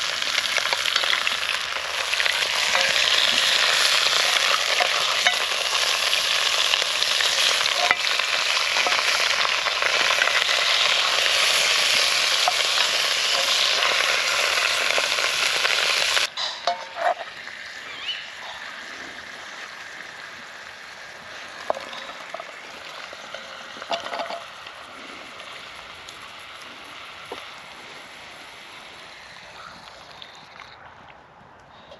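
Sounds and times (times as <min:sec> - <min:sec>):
meat sizzling loudly: 0:00.0 - 0:30.6.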